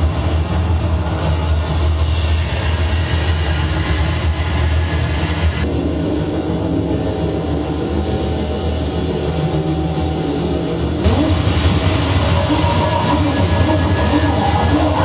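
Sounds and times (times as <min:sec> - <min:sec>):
low machine-like rumbling drone: 0:00.0 - 0:15.0.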